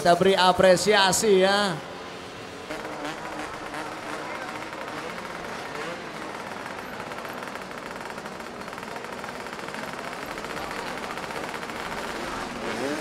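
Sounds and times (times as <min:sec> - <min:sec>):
scooter engines racing: 0:00.0 - 0:13.0.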